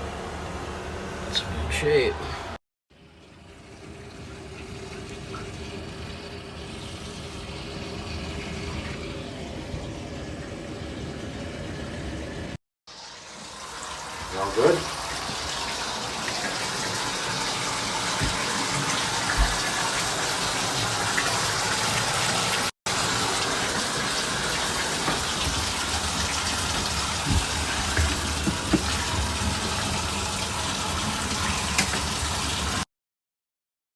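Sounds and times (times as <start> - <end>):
faucet running water: 3.0 - 32.9.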